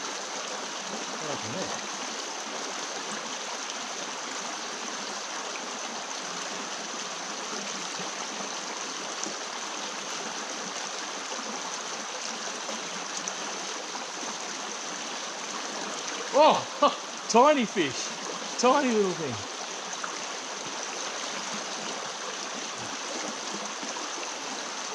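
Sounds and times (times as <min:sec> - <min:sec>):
small stream flowing: 0:00.0 - 0:24.9.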